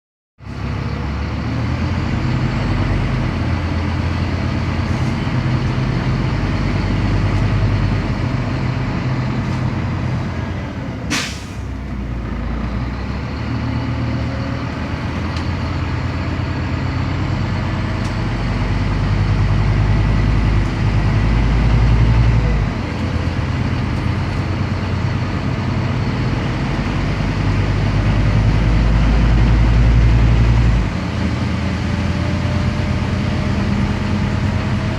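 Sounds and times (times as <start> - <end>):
bus diesel engine under load: 0.4 - 34.9.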